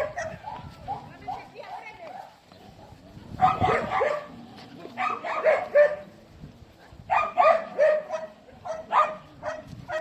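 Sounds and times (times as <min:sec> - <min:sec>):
dog barking: 0:00.0 - 0:04.4, 0:05.0 - 0:06.1, 0:06.8 - 0:10.0.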